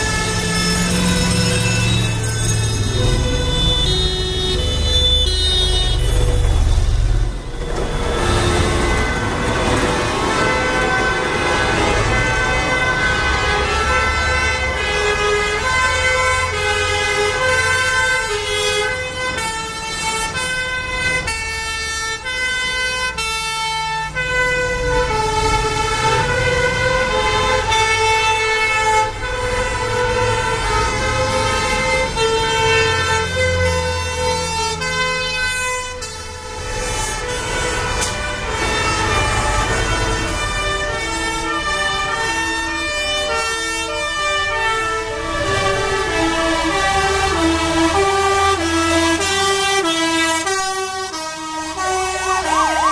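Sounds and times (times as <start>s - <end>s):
truck engines running: 0.0s - 52.9s
two-tone fire engine sirens: 0.0s - 52.9s.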